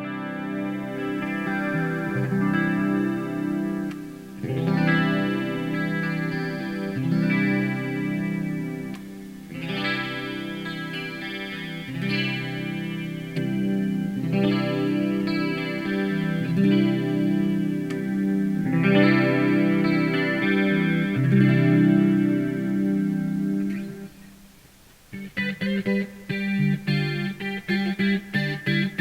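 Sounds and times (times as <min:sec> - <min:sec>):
distorted electric guitar: 0:00.0 - 0:29.0.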